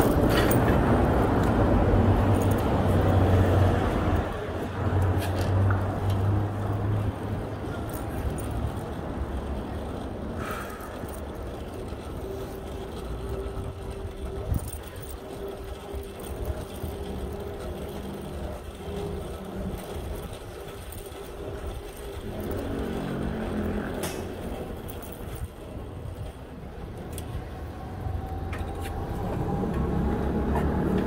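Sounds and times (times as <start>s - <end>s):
passing vehicle engine hum: 0.0s - 25.5s, 26.8s - 31.0s
low traffic rumble: 0.0s - 31.0s.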